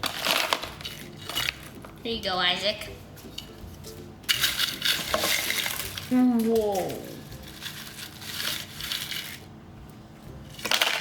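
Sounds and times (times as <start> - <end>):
popcorn rustling and rattling: 0.0 - 2.2, 3.0 - 9.6, 10.4 - 11.0.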